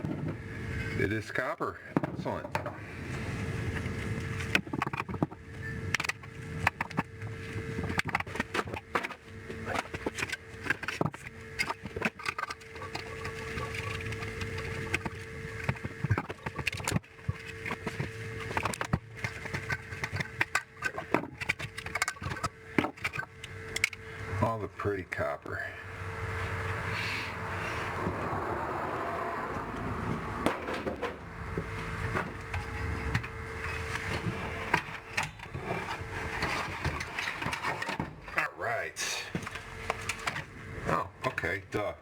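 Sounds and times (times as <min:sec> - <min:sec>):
faint hum: 0:00.0 - 0:42.0.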